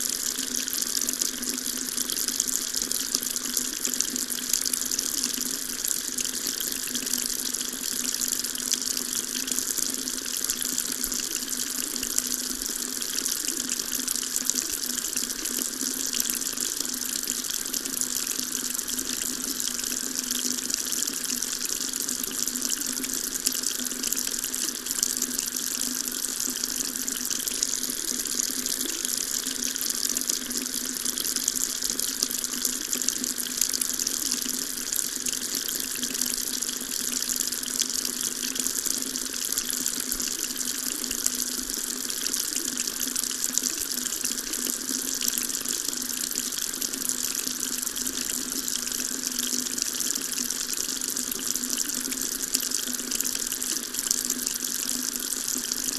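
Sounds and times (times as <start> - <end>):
tap water running into sink: 0.0 - 55.9.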